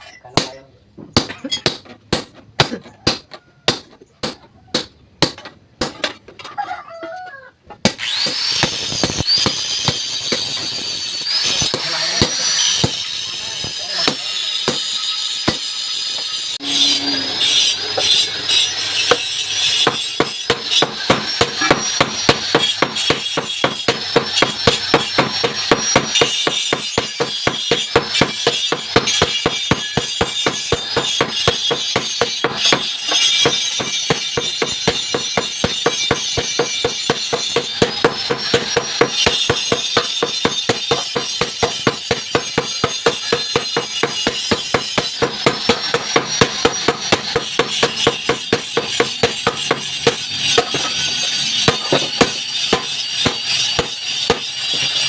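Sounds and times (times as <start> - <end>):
hammer striking metal on anvil: 0.0 - 6.3, 7.8 - 55.0.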